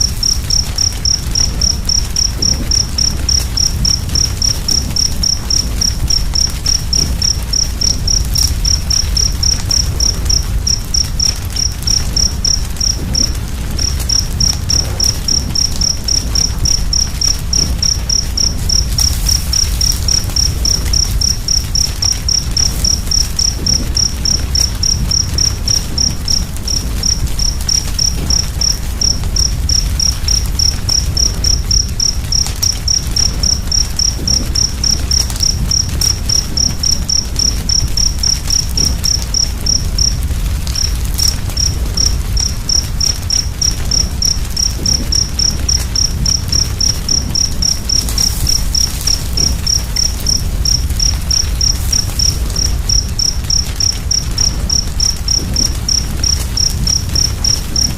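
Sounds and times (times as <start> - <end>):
crackling fire: 0.0 - 57.9
cricket chirping: 0.0 - 57.9.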